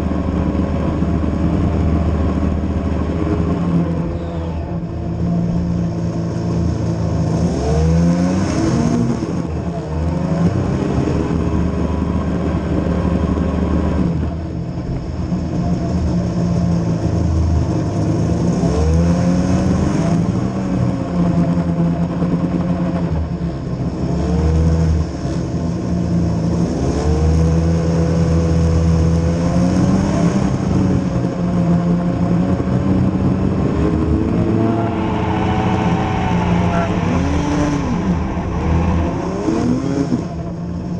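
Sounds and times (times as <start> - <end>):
vehicle engine revving: 0.0 - 16.2, 23.9 - 40.9.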